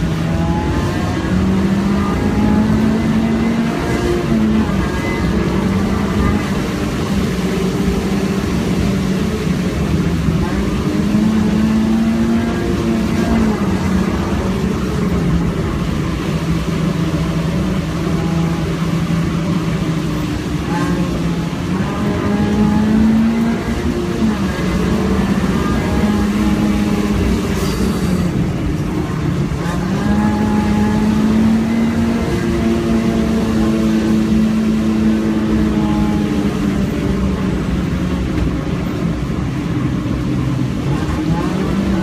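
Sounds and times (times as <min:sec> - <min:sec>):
car engine at speed: 0:00.0 - 0:42.0
tyre and road noise: 0:00.0 - 0:42.0.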